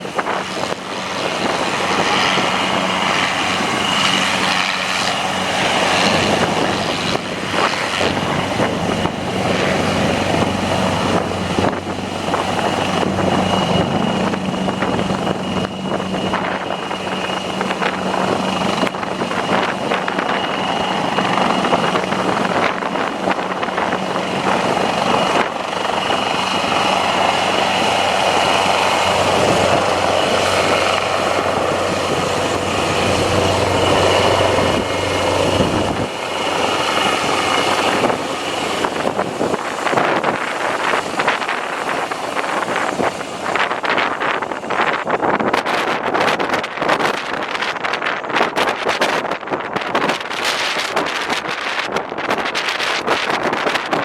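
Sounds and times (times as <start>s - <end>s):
high steady whine: 0.0s - 48.4s
helicopter rotor and engine: 0.0s - 54.0s.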